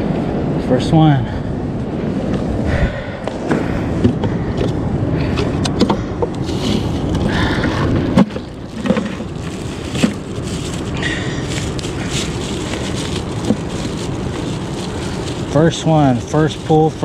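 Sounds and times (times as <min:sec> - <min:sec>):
wind on microphone: 0:00.0 - 0:15.6
surf rumble: 0:00.0 - 0:17.0.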